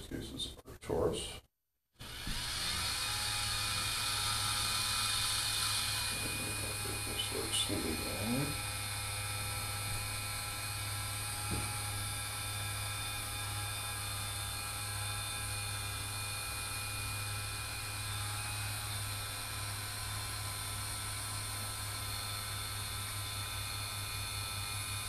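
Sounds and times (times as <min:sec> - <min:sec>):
electric motor whir: 0:02.0 - 0:25.0.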